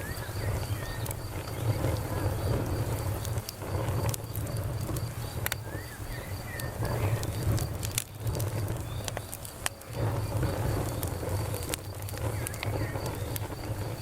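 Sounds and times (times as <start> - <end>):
campfire wood crackling: 0.0 - 14.0
cricket chirping: 0.0 - 14.0.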